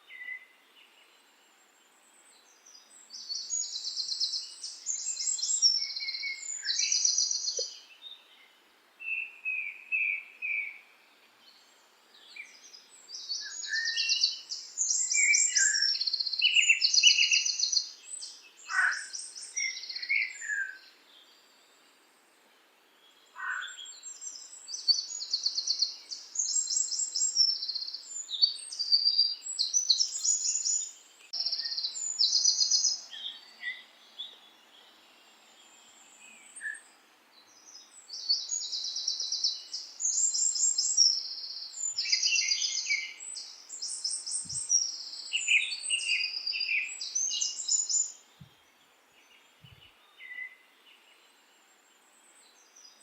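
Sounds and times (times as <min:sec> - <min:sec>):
small birds singing: 0:00.0 - 0:53.0.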